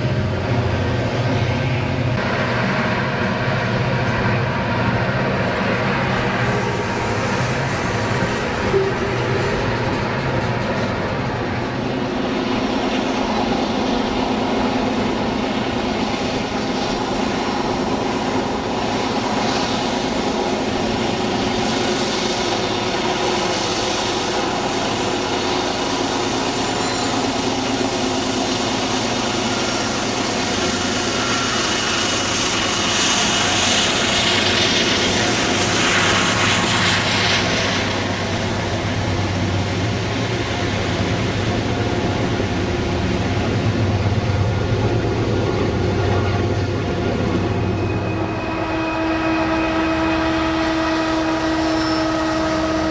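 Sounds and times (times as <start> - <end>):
locomotive engines droning: 0.0 - 52.9.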